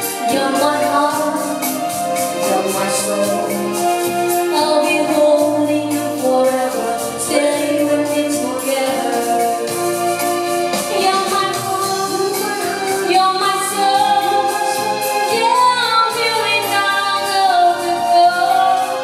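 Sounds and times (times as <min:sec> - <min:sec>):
electronic keyboard disco-pop song: 0:00.0 - 0:19.0.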